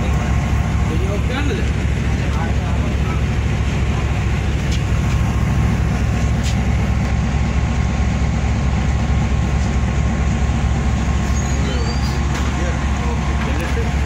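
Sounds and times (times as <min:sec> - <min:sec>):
railway carriage rumble: 0:00.0 - 0:14.0.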